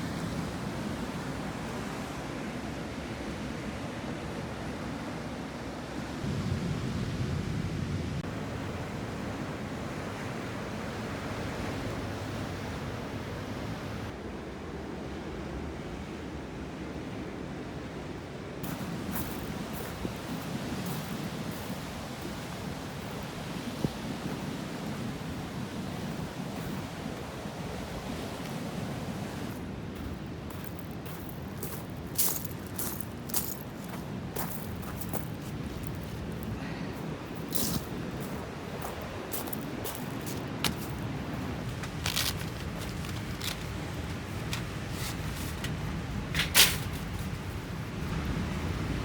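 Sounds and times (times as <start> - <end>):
sea waves washing on shore: 0.0 - 49.0
wind: 0.0 - 49.0.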